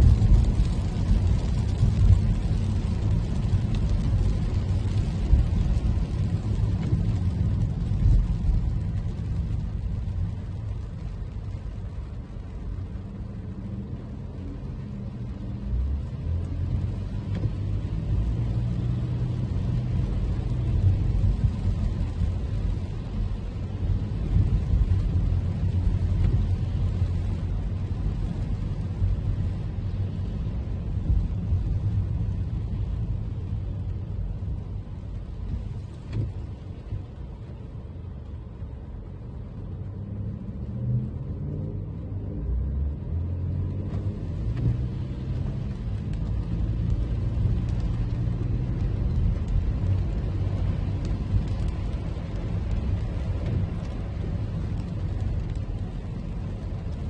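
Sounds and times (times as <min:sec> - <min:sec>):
tyres on wet road: 0:00.0 - 0:57.0.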